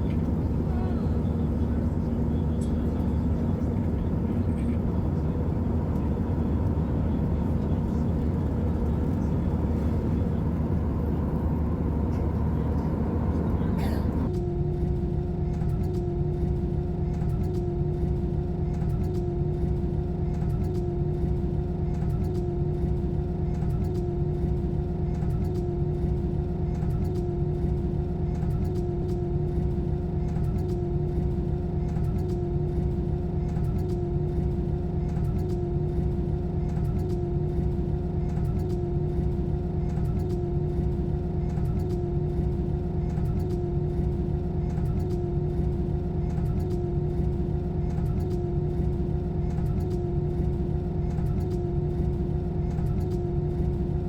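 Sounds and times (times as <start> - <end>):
airliner cabin engine roar: 0.0 - 54.0.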